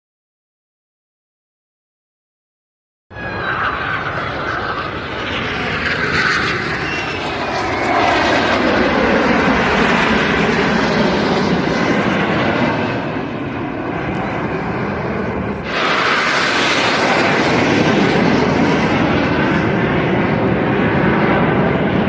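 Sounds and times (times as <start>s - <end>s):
airplane flying past: 3.1s - 22.0s.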